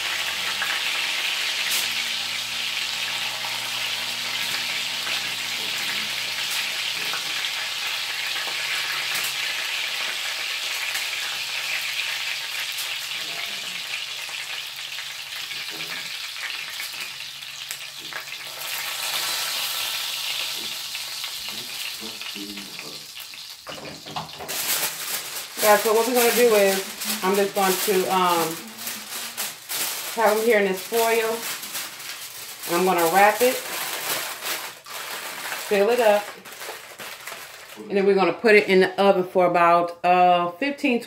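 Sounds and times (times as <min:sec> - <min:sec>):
meatballs sizzling in hot oil: 0:00.0 - 0:37.6.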